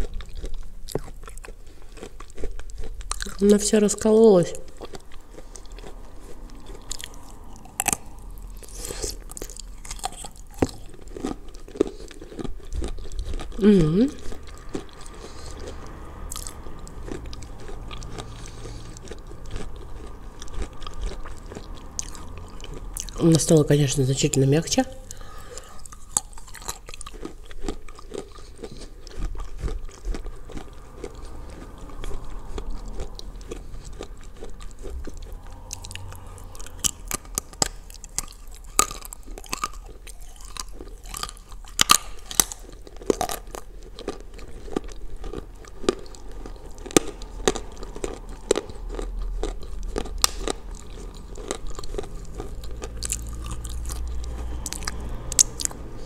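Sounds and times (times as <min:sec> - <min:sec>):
soft wet chewing: 0:00.0 - 0:23.7, 0:24.9 - 0:56.0.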